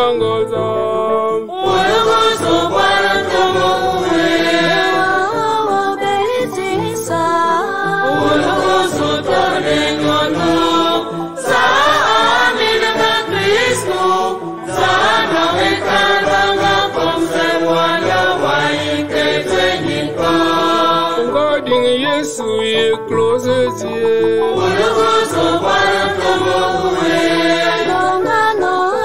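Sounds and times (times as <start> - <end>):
church choir singing a hymn: 1.5 - 21.8, 24.4 - 29.0.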